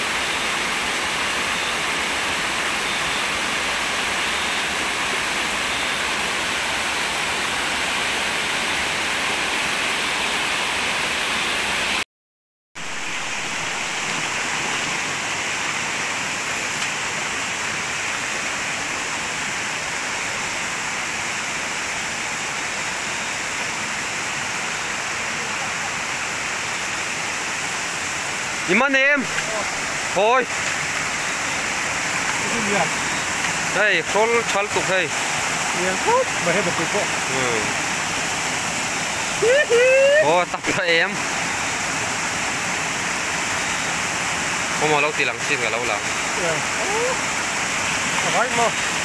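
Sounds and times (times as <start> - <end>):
stream rushing over stones: 0.0 - 12.0, 12.8 - 49.0.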